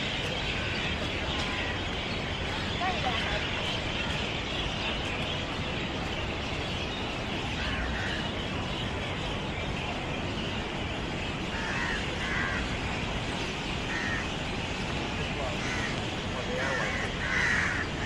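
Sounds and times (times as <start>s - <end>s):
city hum: 0.0s - 18.0s.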